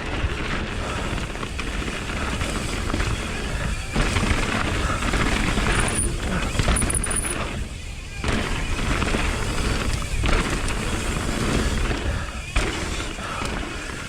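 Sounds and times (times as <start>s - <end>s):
bike tyre and drivetrain rattle: 0.0s - 14.0s.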